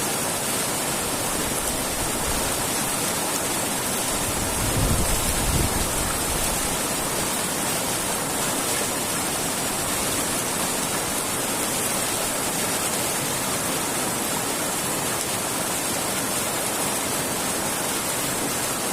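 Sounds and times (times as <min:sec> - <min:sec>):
running water rushing: 0:00.0 - 0:18.9.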